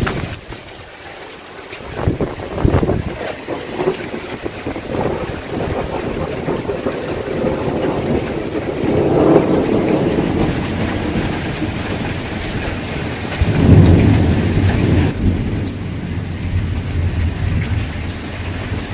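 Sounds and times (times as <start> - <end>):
heavy rain falling: 0.0 - 18.9
low rumble of thunder: 1.9 - 18.9.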